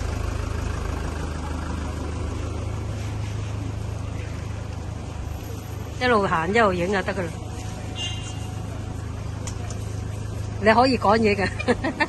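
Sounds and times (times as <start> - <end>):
street din: 0.0 - 12.0
vehicle engine humming: 0.0 - 12.0.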